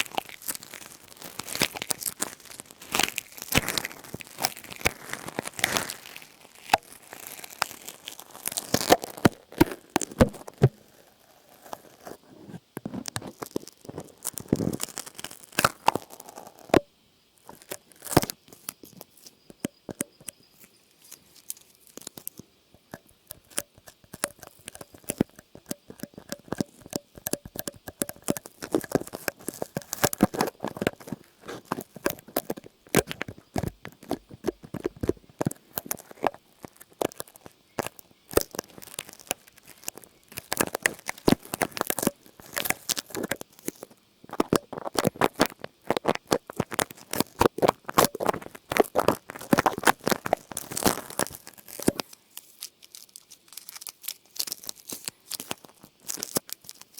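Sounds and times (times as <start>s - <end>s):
crinkling and crackling: 0.0s - 56.9s.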